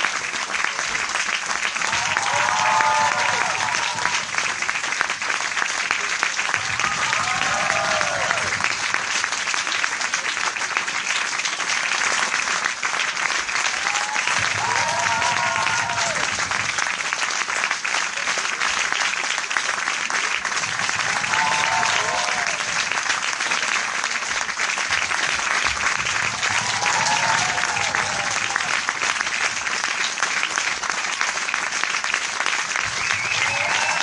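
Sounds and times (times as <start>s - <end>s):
crowd applauding: 0.0s - 34.0s.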